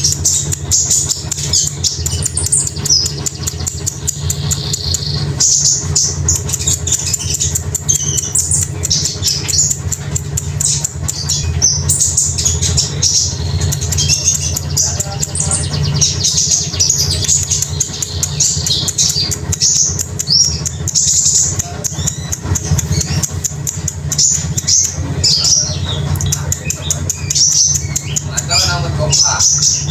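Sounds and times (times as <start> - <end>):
songbird chirping: 0.0 - 29.9
steady low hum: 0.0 - 29.9.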